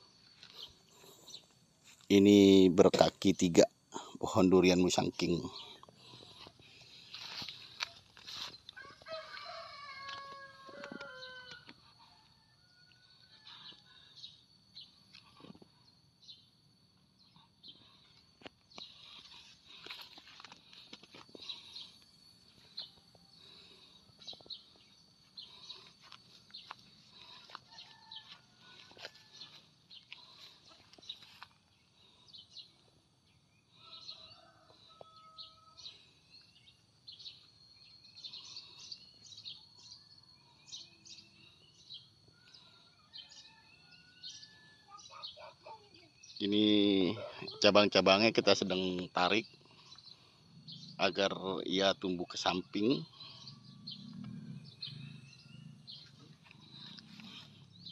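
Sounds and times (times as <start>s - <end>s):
birds chirping: 0.0s - 12.2s, 12.9s - 57.9s.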